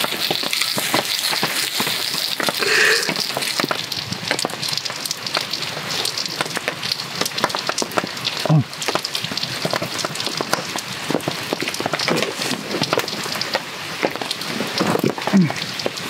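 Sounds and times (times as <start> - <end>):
heavy rain pattering on a tarp: 0.0 - 16.0.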